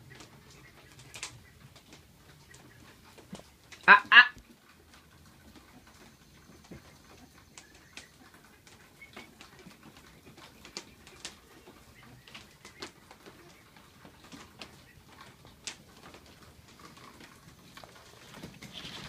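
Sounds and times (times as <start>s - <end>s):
goose clicking: 0.0s - 19.0s.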